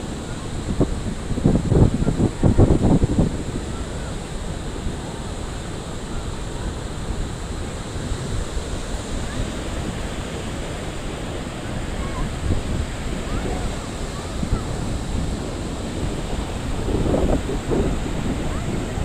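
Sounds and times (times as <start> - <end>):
ocean waves washing onto beach: 0.0 - 19.0
wind rumbling on microphone: 0.0 - 19.0.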